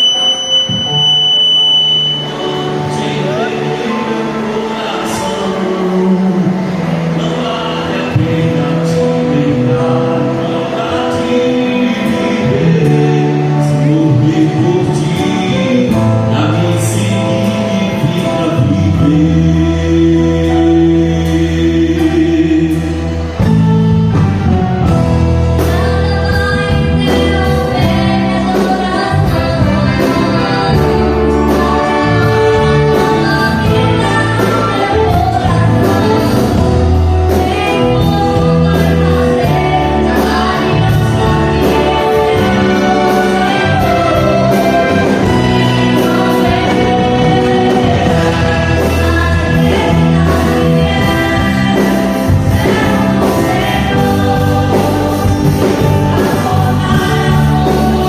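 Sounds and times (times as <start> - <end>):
gospel singing: 0.0 - 58.0
instrumental accompaniment with bass: 0.0 - 58.0.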